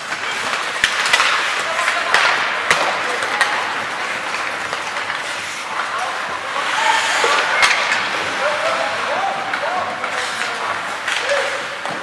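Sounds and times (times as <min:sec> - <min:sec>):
skate blades scraping ice: 0:00.0 - 0:12.0.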